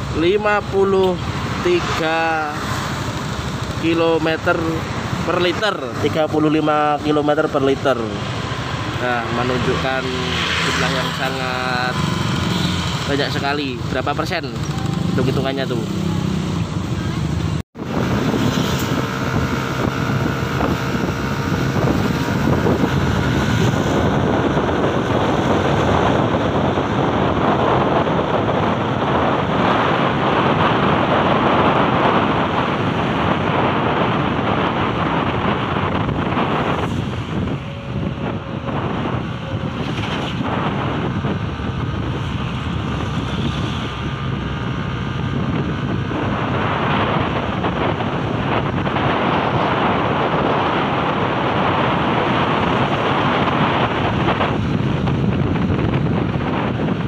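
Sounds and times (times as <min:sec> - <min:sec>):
scooter engine and road noise: 0:00.0 - 0:57.0
wind buffeting microphone: 0:00.0 - 0:57.0.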